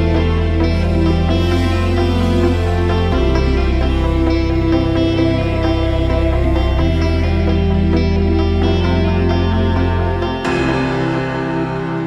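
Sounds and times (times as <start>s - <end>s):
calm new-age music: 0.0s - 12.0s
plucked string notes: 0.0s - 12.0s
sustained low bass tone: 0.0s - 12.0s.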